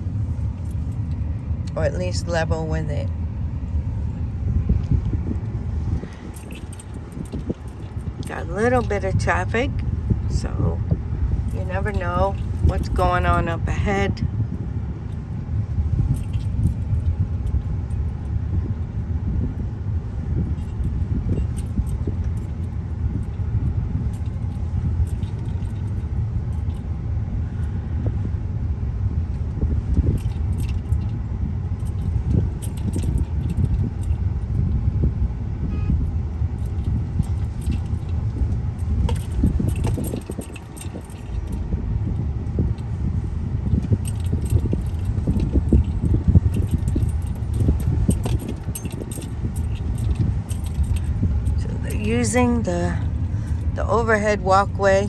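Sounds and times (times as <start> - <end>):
jingling and rattling: 0.0 - 1.7, 3.7 - 27.9, 29.2 - 35.0, 36.0 - 55.0
engine and tyre rumble: 0.0 - 55.0.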